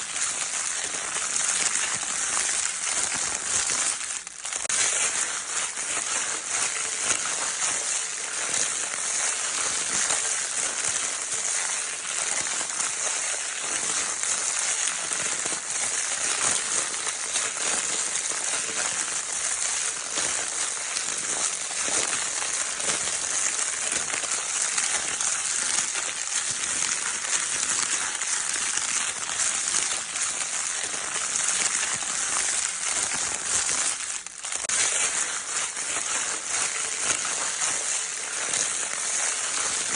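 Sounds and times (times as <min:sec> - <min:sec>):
crinkle paper rustling: 0:00.0 - 0:39.9.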